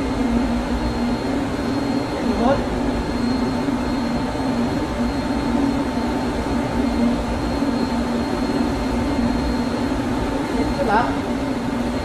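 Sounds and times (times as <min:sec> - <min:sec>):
engine room machinery humming: 0:00.0 - 0:12.0
thin high whine: 0:00.0 - 0:12.0.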